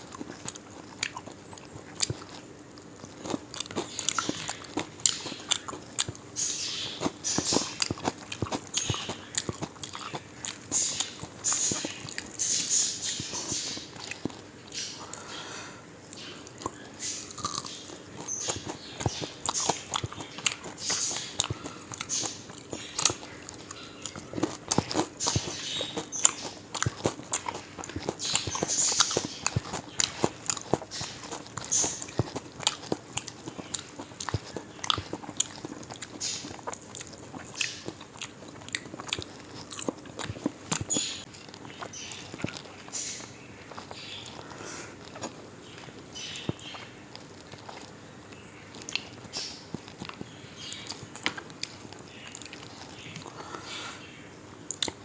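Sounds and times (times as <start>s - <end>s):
person chewing crunchy fried fish: 0.0s - 55.0s.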